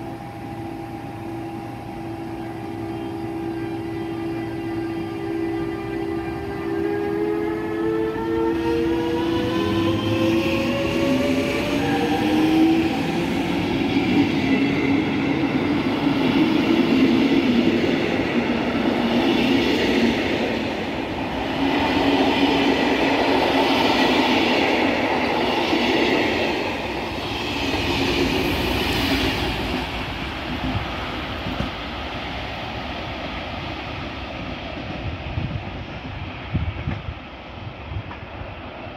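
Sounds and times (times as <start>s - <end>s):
train wheels rolling on track: 4.4s - 38.9s.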